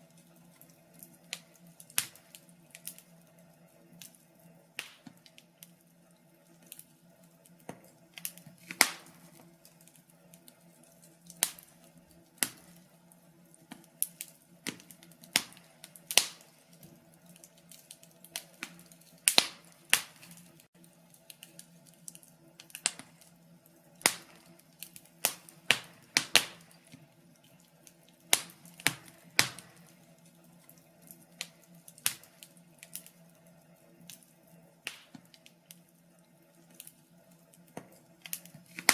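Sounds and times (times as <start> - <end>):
burning logs popping: 0.0 - 38.9
wood fire crackling: 0.0 - 38.9.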